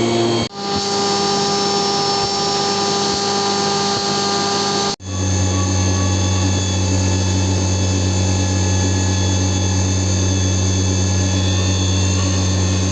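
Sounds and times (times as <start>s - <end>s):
machine whining tones: 0.0s - 12.9s
milling machine humming: 0.0s - 12.9s.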